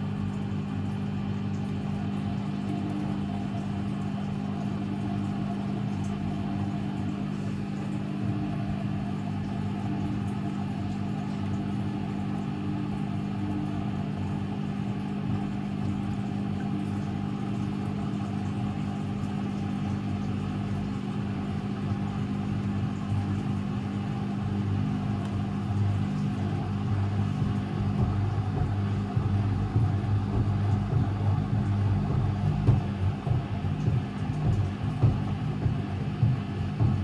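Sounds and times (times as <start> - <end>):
washing machine motor hum: 0.0 - 37.0.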